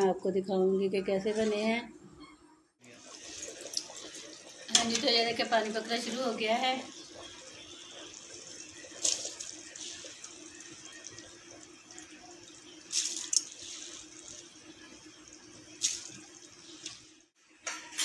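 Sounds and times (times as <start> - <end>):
stock boiling and bubbling: 2.8 - 17.8.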